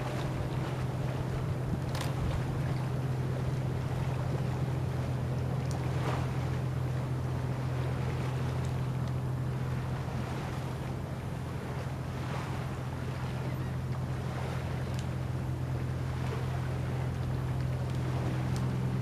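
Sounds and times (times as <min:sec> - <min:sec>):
boat motor droning: 0:00.0 - 0:19.0
water noise: 0:00.0 - 0:19.0
wind: 0:00.0 - 0:19.0.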